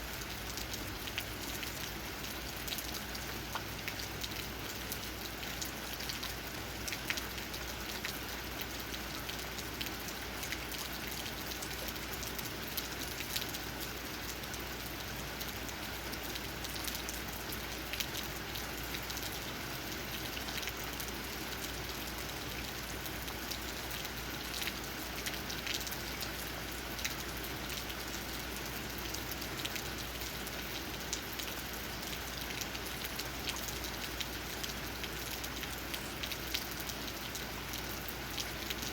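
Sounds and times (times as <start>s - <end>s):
raindrops tapping on leaves: 0.0s - 38.9s
steady rain falling: 0.0s - 38.9s.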